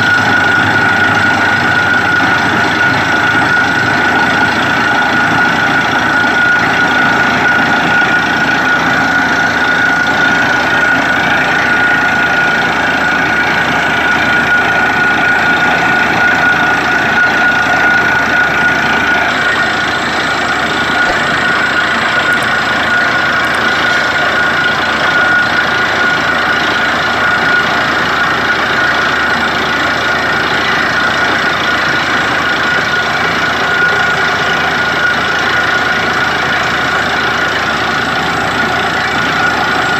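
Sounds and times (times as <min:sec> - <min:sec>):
compressor high whine: 0:00.0 - 0:39.9
heavy engine drone: 0:00.0 - 0:39.9.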